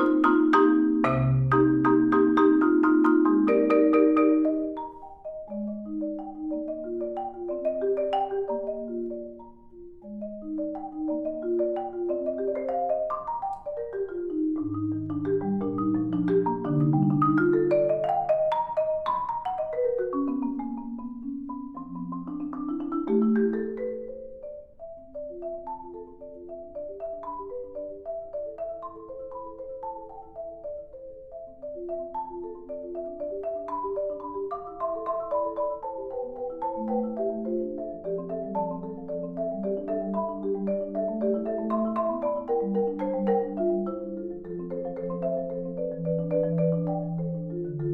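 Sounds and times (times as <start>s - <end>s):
solo marimba melody: 0.0s - 47.9s.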